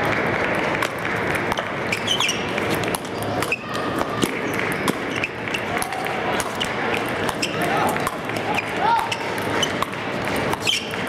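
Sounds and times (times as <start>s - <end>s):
crowd murmur: 0.0s - 11.0s.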